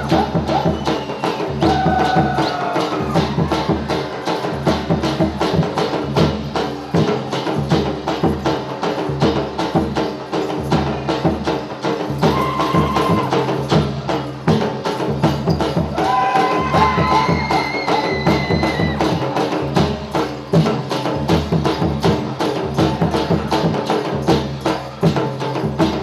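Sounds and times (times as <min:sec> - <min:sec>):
fast clicking percussion: 0:00.0 - 0:26.0
folk dance music: 0:00.0 - 0:26.0.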